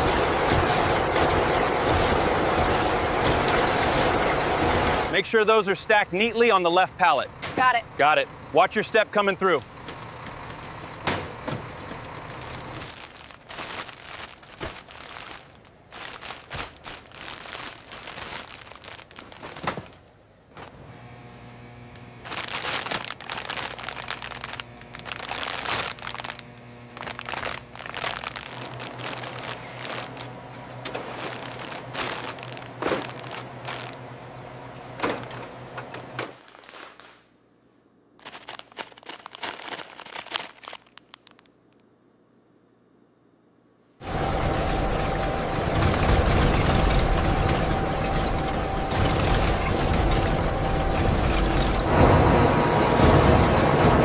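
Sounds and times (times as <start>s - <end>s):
machinery hum: 0.0s - 36.4s, 41.9s - 54.0s.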